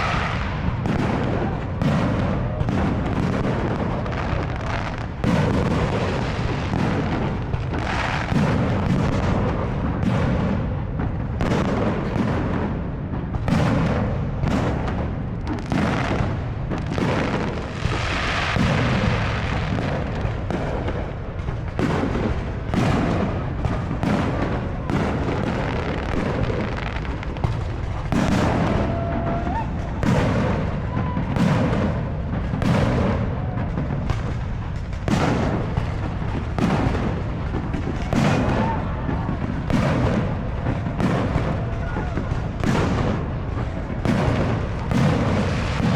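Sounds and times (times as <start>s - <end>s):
fireworks booming: 0.0s - 45.9s.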